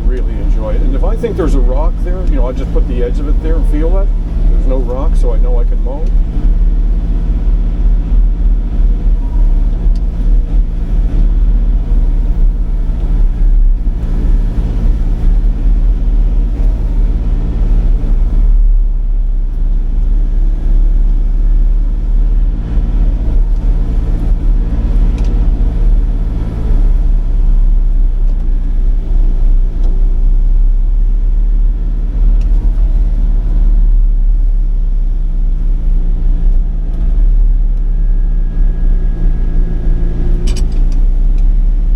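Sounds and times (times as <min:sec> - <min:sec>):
excavator diesel engine under load: 0:00.0 - 0:41.9.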